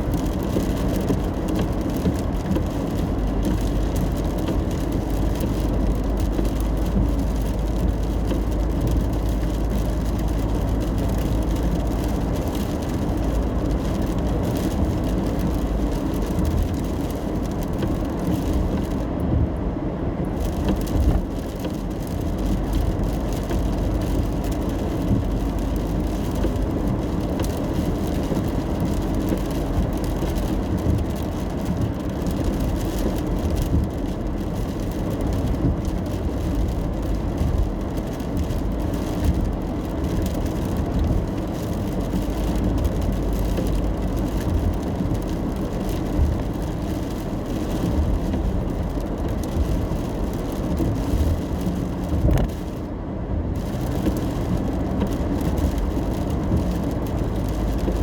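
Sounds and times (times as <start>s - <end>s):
car road and engine rumble: 0.0s - 58.0s
hiss of rain and tyres: 0.0s - 58.0s.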